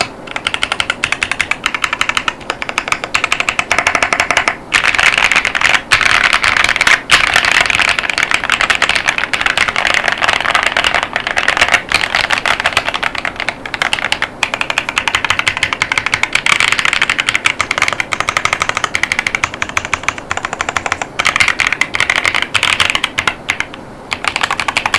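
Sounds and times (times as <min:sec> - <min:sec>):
mechanical keyboard typing: 0:00.0 - 0:24.9.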